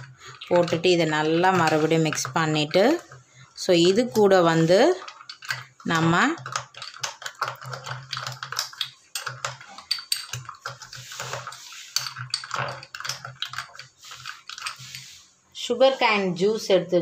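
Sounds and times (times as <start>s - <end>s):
spoon stirring ice in glass: 0.0s - 15.3s.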